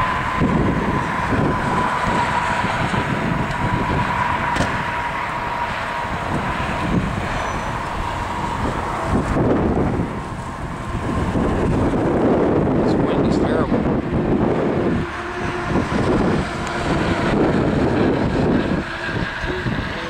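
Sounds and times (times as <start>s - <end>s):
car road noise rumble: 0.0s - 20.0s.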